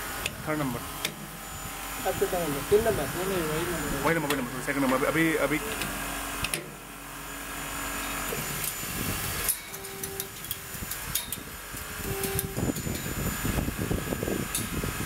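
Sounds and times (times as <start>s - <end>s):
power wrench humming: 0.0s - 15.0s.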